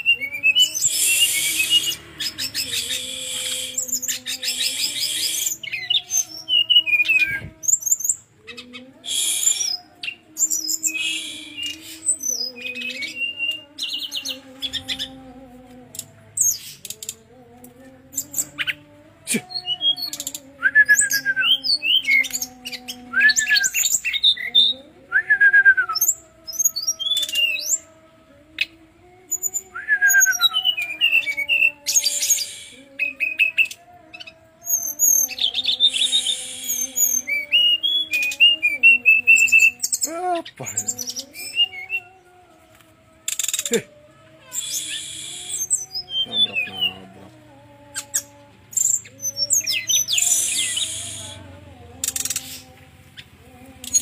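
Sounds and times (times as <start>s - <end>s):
bird singing: 0.0s - 42.4s, 43.2s - 54.0s.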